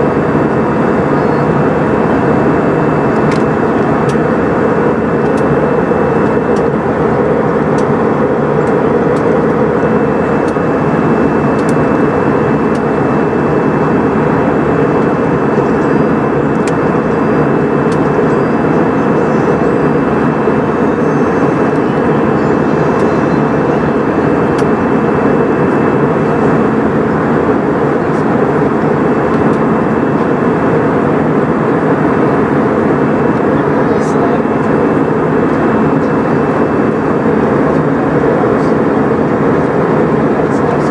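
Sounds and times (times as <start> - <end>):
airplane cabin engine rush: 0.0 - 40.9
faint high whine: 0.0 - 40.9.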